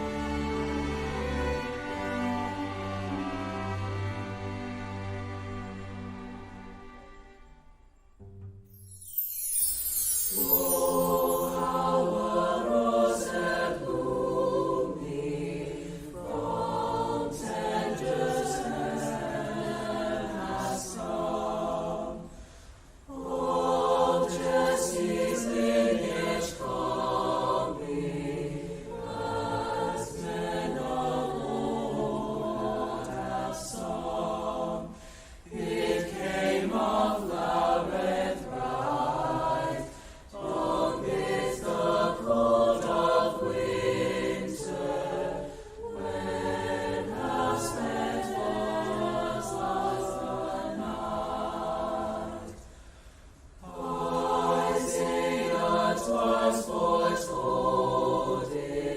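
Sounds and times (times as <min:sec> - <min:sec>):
school choir singing: 0:00.0 - 0:06.7, 0:09.1 - 0:22.3, 0:23.1 - 0:52.6, 0:53.6 - 0:58.9.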